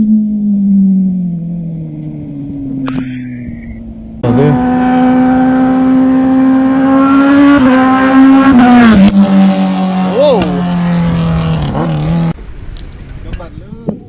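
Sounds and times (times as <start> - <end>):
motorcycle engine revving high: 0.0 - 12.4
low tone: 0.0 - 12.8.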